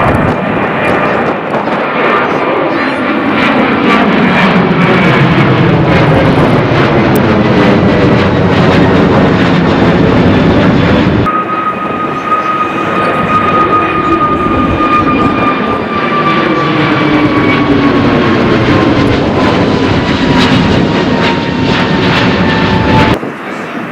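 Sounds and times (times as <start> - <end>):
jet engines at take-off power: 0.0 - 23.9.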